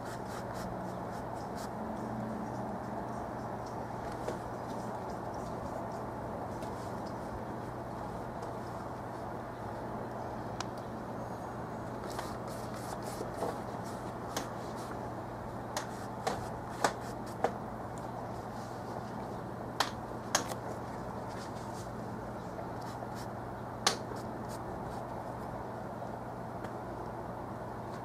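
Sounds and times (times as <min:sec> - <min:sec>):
room hiss: 0:00.0 - 0:28.0.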